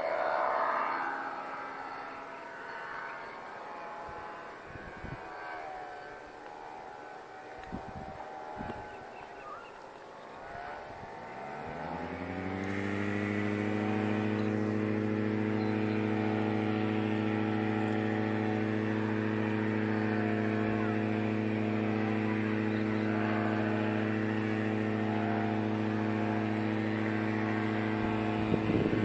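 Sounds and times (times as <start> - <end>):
paramotor engine droning: 0.0 - 29.0.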